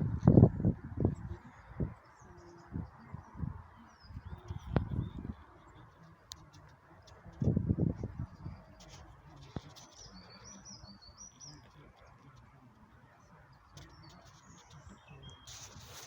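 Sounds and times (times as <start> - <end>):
bird chirping: 1.1 - 7.5, 8.2 - 16.0.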